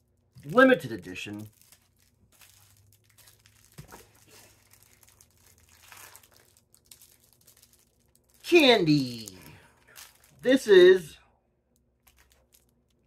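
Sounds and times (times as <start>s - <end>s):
packaging crinkling and rustling: 0.3s - 10.6s, 11.7s - 13.0s.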